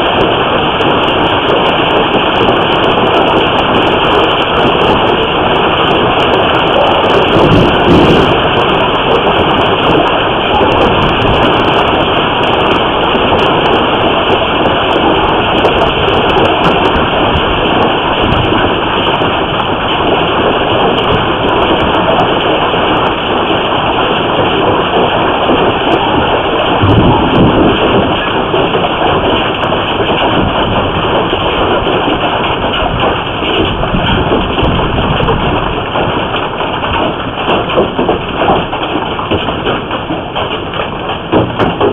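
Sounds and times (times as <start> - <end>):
hail and heavy rain pounding: 0.0 - 41.9.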